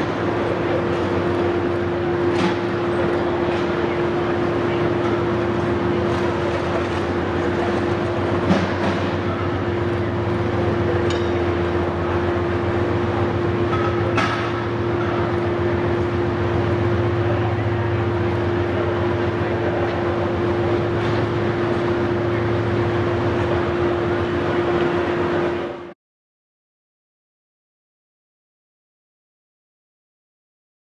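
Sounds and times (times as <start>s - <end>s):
loud machine drone: 0.0s - 26.0s.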